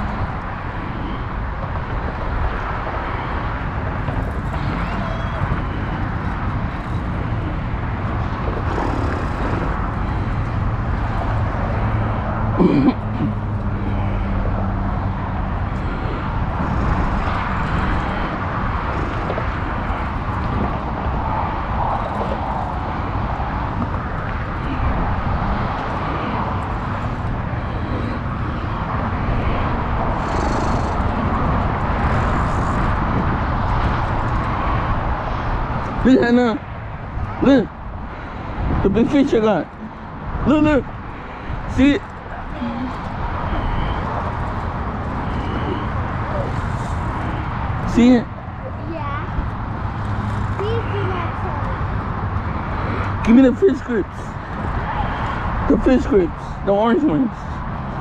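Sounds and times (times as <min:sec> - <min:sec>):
outdoor rushing noise: 0:00.0 - 0:58.0.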